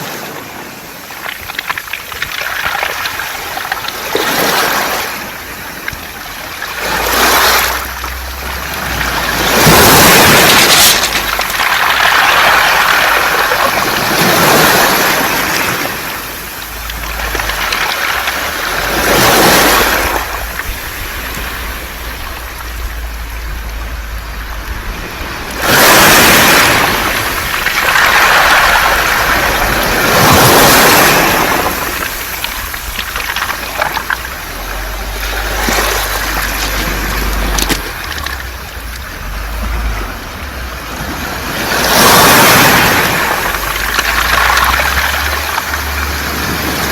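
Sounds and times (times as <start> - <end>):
surf washing over pebbles: 0.0 - 46.9
pebbles rattling in water: 1.0 - 24.1, 25.6 - 40.0, 41.8 - 46.9.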